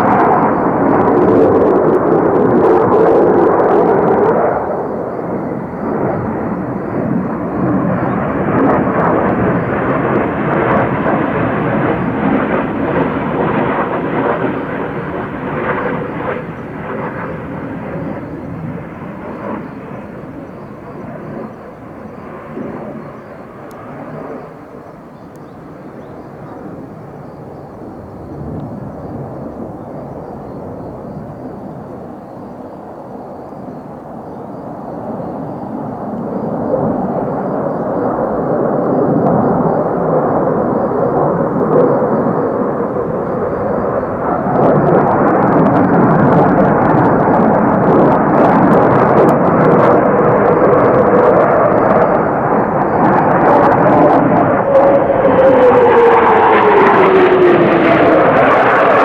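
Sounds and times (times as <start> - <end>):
jet engine rushing: 0.0 - 59.0.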